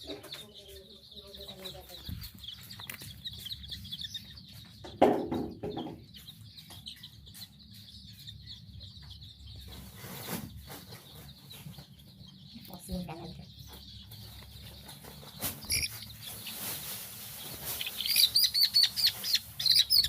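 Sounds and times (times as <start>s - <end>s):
chickens peeping and clucking: 0.0s - 20.0s.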